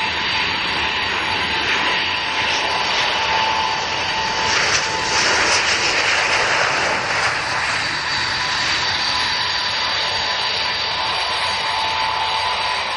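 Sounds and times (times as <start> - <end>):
jet engines whining and rushing: 0.0 - 12.9.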